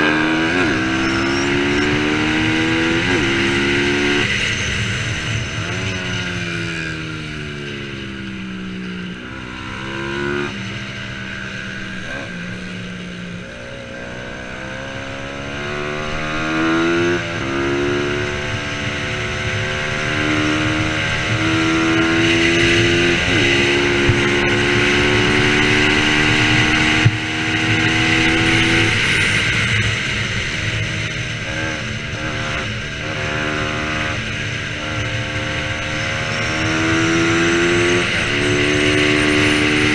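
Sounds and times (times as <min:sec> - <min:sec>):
motorcycle engine racing: 0:00.0 - 0:39.9.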